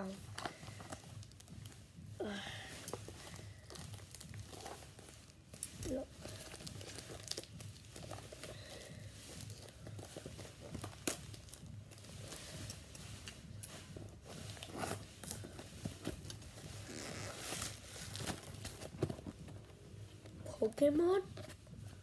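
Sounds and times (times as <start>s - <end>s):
plastic wrapping crinkling and tearing: 0.0s - 2.1s, 2.7s - 19.7s.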